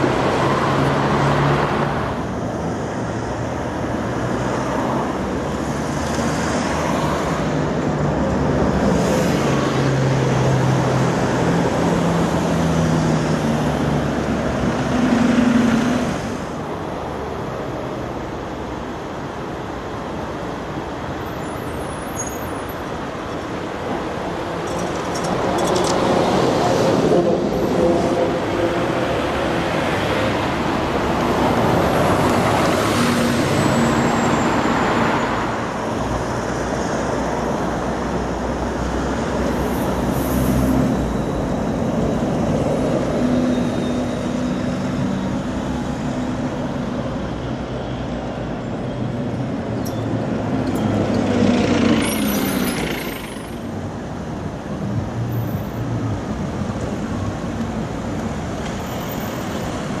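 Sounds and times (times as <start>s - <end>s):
buses driving past: 0.0s - 60.0s
high vehicle whine: 0.0s - 60.0s.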